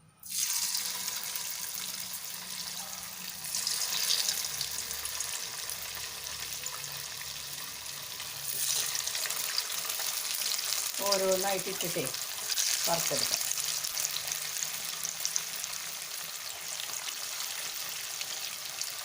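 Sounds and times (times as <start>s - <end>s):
chicken sizzling in hot oil: 0.2s - 19.0s.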